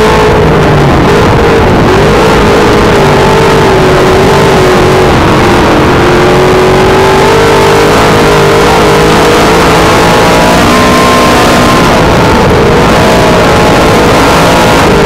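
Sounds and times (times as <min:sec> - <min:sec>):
race car engine running hard: 0:00.0 - 0:15.0.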